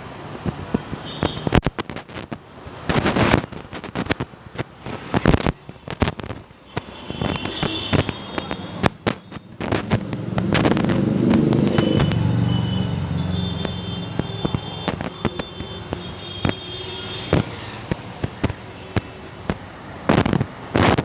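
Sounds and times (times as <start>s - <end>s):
firecrackers bangs and pops: 0.4s - 12.3s, 13.3s - 21.0s.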